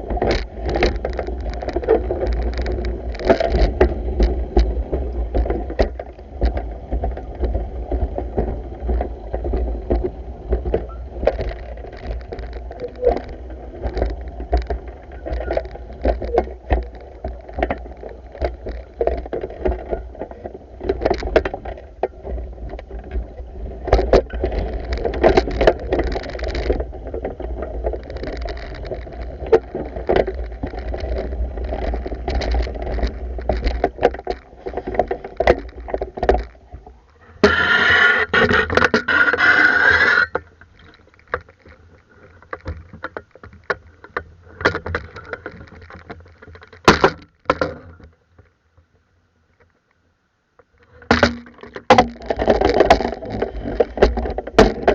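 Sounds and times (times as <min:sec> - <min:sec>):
water churning and sloshing: 0:00.0 - 0:48.0, 0:50.8 - 0:54.9.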